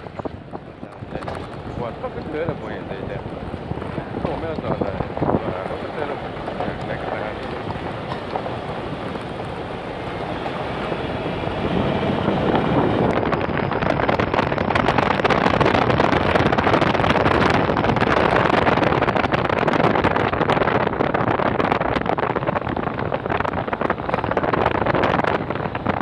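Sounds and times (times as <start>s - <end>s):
vehicle moving on paved road: 0.0s - 26.0s
wind on microphone: 0.0s - 26.0s.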